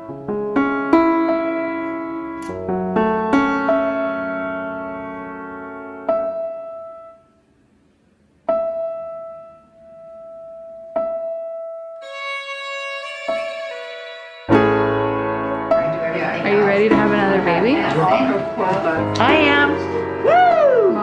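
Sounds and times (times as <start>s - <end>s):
slow piano music: 0.0s - 7.6s, 8.4s - 21.0s.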